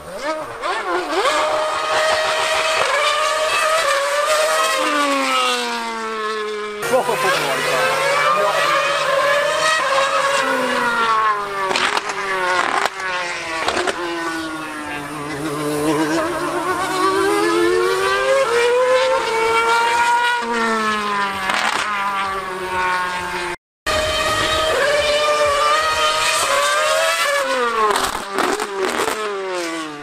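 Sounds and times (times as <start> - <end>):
racing car engine at high revs: 0.0 - 30.0.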